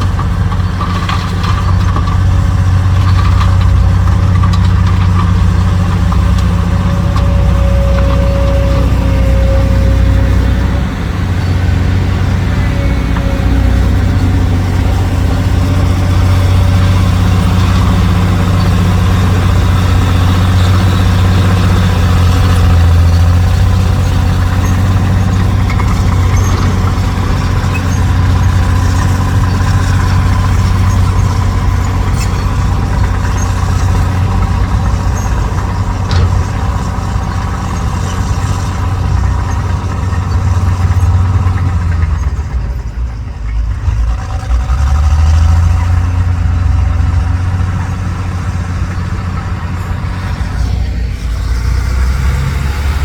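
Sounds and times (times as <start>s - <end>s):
heavy diesel engine running: 0.0s - 53.0s.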